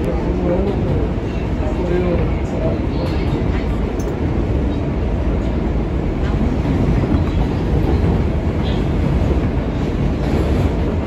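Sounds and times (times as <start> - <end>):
subway car wheels rumbling on rails: 0.0 - 11.0.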